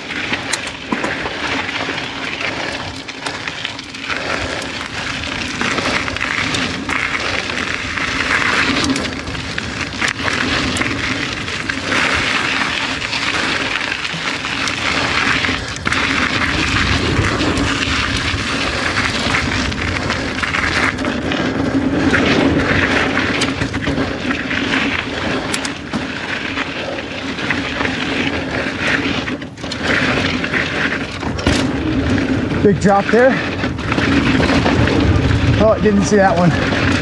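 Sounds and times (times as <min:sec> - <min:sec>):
bike knocking and rattling: 0:00.0 - 0:37.0
tyre and wind rush: 0:00.0 - 0:37.0.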